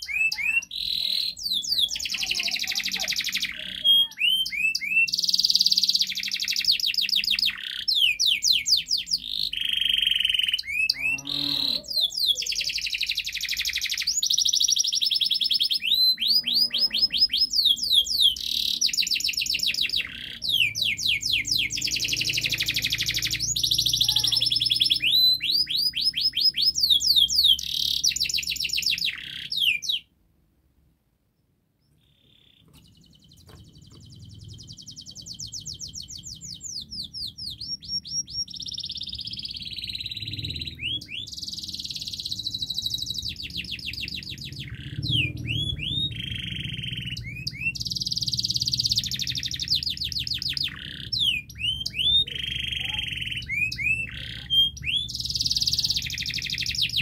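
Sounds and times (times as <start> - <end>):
canary singing trills: 0.0 - 30.1, 31.8 - 57.0.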